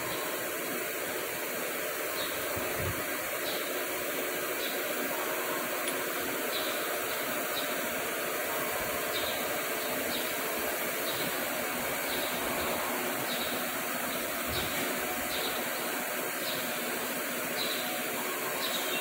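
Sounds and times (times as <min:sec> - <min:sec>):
hissing machine noise: 0:00.0 - 0:19.0.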